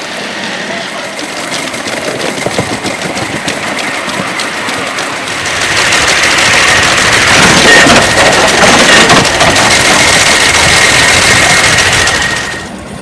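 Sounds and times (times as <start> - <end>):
model steam locomotive running: 0.0 - 13.0.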